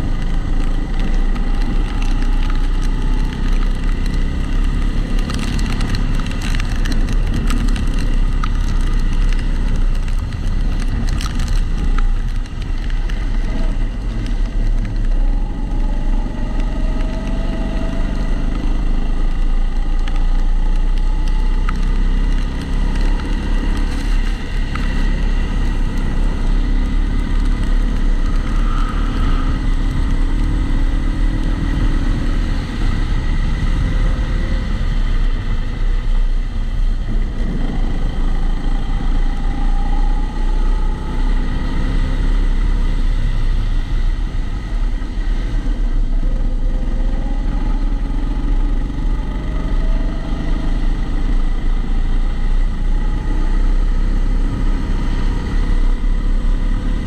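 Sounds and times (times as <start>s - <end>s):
constant low rumble: 0.0s - 57.0s.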